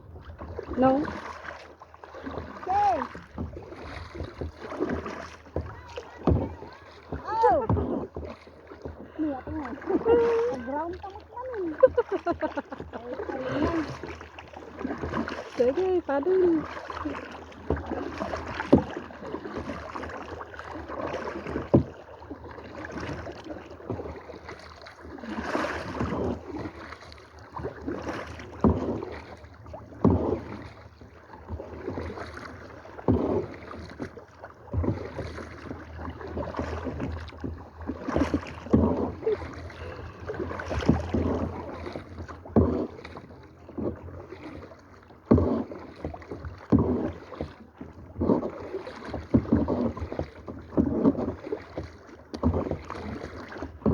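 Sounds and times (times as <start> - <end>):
paddles splashing in water: 0.0 - 53.9.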